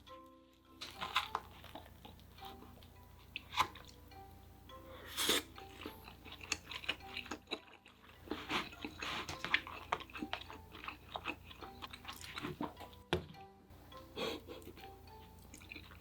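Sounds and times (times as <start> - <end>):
person chewing and biting food: 0.8 - 13.1, 14.2 - 16.0.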